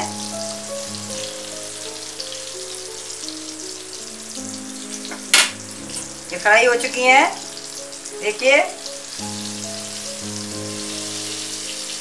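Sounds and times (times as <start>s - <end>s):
chillies deep-frying in oil: 0.0s - 12.0s
soft background music: 0.0s - 12.0s.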